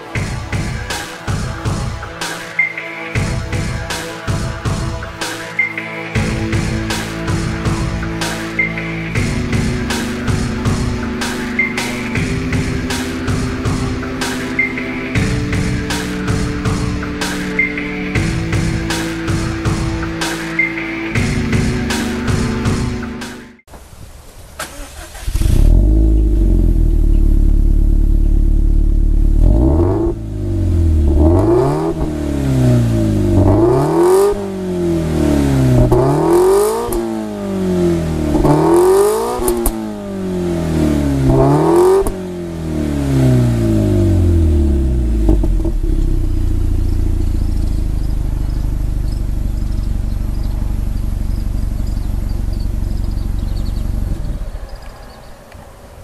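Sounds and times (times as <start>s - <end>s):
car engine idling and revving: 3.2s - 23.5s, 24.6s - 56.0s.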